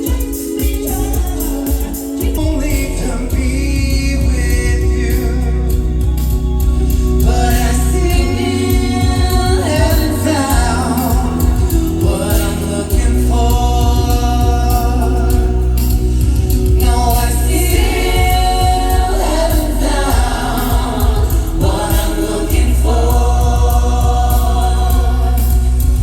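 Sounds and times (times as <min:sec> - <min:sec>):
deep sung bass line: 0:00.0 - 0:26.0
vocal group singing in harmony: 0:00.0 - 0:26.0.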